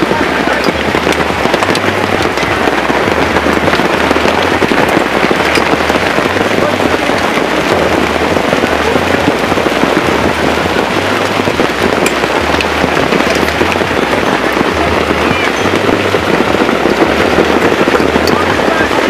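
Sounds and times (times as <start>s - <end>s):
heavy rain pelting: 0.0s - 19.0s
wind buffeting microphone: 0.0s - 19.0s.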